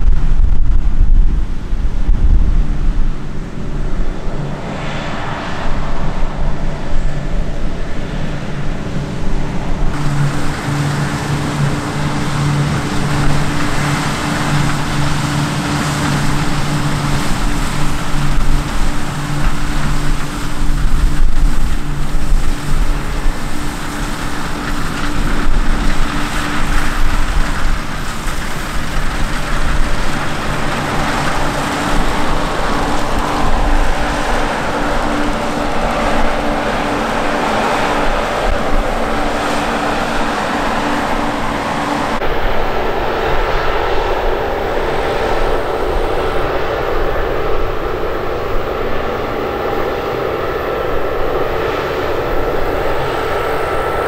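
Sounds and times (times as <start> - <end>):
combine harvester running: 0.0 - 54.0
distant tractor engine: 2.7 - 54.0.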